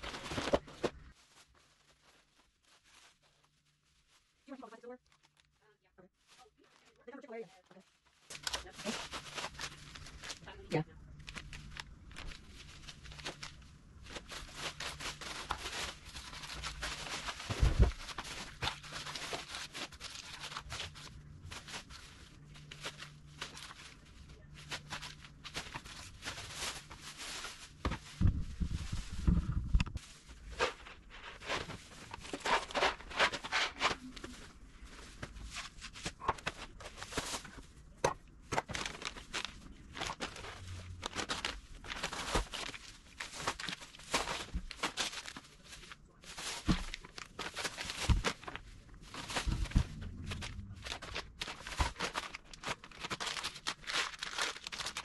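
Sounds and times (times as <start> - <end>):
plastic bags rustling: 0.0 - 55.0.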